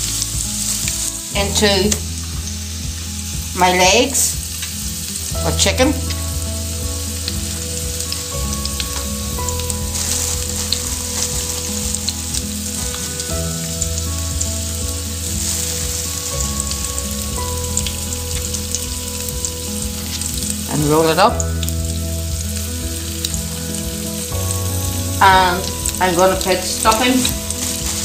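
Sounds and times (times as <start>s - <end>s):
oil sizzling in a frying pan: 0.0s - 28.0s.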